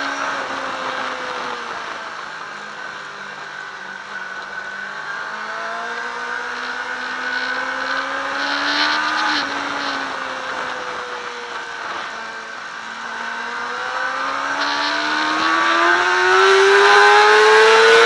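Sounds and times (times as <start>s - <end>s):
motorcycle engine at speed: 0.0s - 18.0s.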